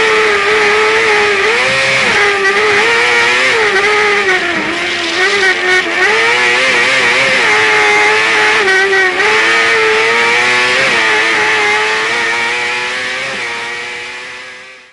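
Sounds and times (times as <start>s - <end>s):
kart engine revving high: 0.0s - 14.9s.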